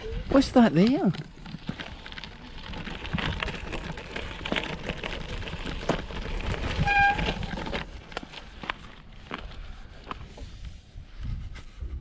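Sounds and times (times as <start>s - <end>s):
bike tyres crunching on gravel: 0.0s - 10.7s.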